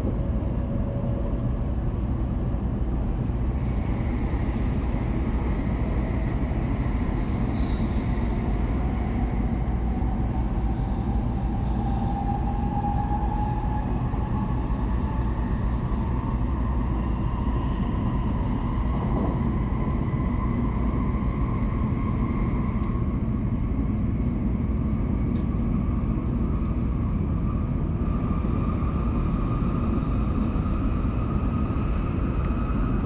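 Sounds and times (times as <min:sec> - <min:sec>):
faint train whine: 0:00.0 - 0:33.0
train rumble inside cabin: 0:00.0 - 0:33.0.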